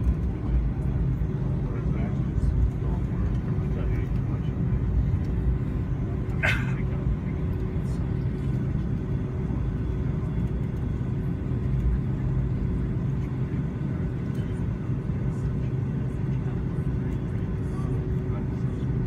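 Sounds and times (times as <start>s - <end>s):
jet engine and airflow rumble: 0.0s - 19.0s.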